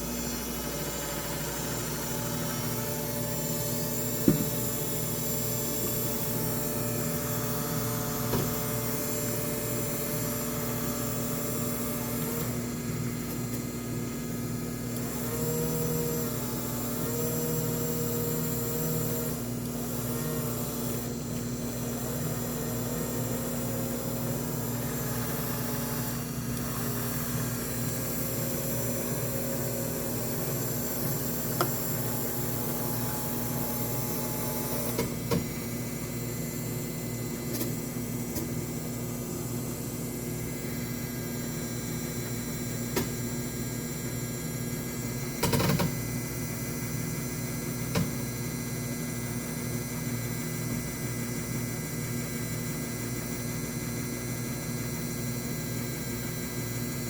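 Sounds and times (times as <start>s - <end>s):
washing machine motor humming: 0.0s - 48.4s.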